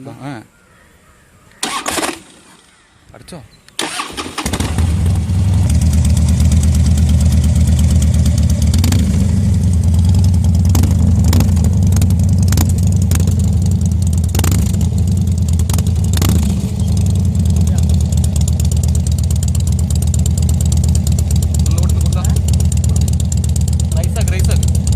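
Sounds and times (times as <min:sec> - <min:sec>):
motorcycle engine idling: 0:03.9 - 0:24.9.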